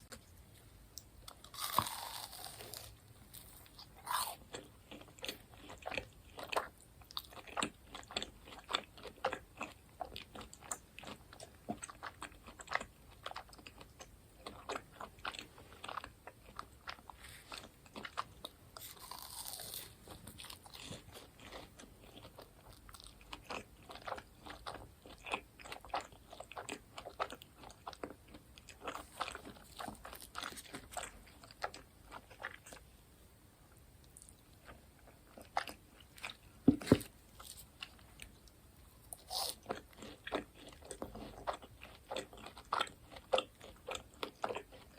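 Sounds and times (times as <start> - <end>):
crunching and chewing fried food: 0.0 - 33.0, 33.7 - 44.9.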